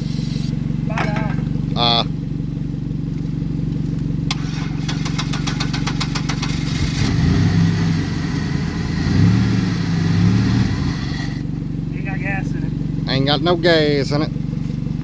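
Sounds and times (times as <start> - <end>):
car engine ticking and revving: 0.0 - 15.0.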